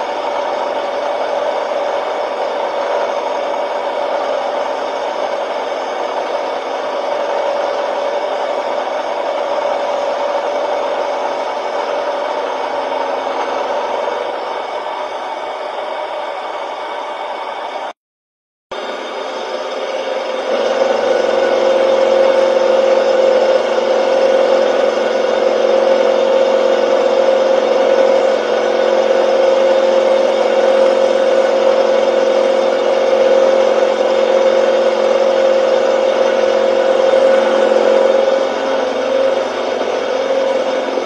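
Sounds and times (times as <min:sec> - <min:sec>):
milling machine cutting metal: 0:00.0 - 0:17.9, 0:18.7 - 0:41.0.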